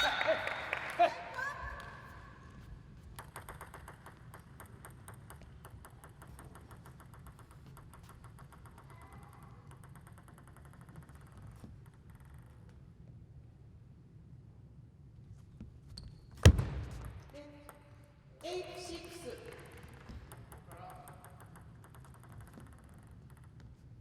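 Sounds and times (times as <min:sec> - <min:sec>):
table tennis ball bouncing: 0:00.0 - 0:13.2, 0:16.4 - 0:24.0.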